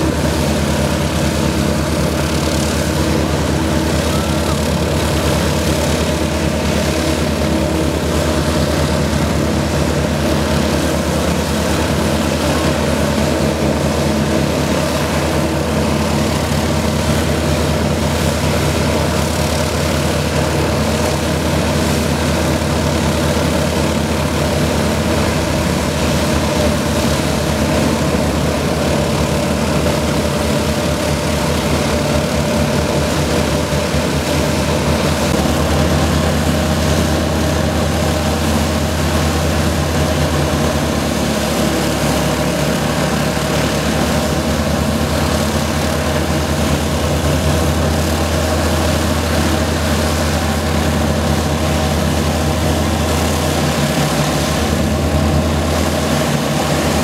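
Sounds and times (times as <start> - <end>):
aircraft piston engines running: 0.0 - 57.0.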